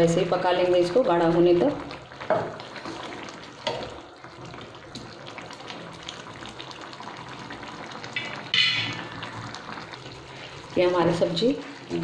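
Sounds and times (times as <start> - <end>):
curry gravy bubbling in a pan: 0.6 - 12.0.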